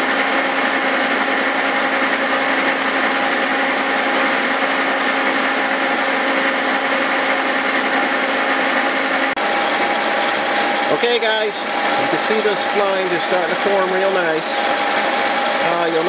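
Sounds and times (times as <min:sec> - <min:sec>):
milling machine hum: 0:00.0 - 0:16.0.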